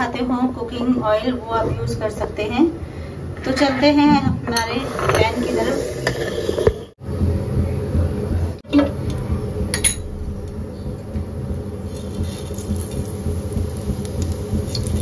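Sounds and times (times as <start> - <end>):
low kitchen hum: 0.0 - 15.0.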